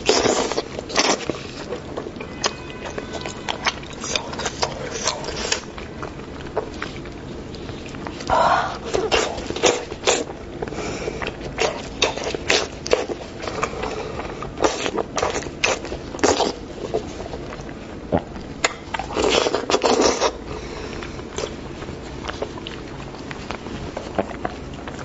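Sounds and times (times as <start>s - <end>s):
chewing smacks and clicks: 0.0s - 25.0s.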